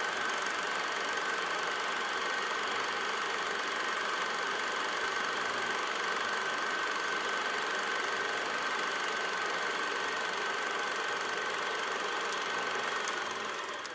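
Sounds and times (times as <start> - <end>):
film projector running: 0.0 - 13.9.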